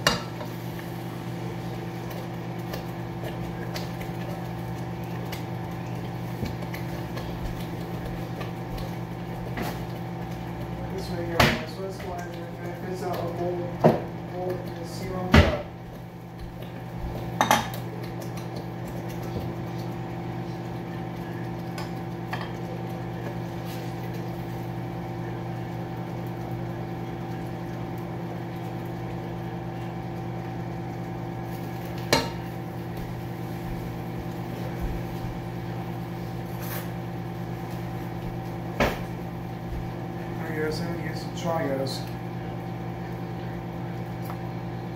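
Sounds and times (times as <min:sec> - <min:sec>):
kitchen appliance humming: 0:00.0 - 0:44.9.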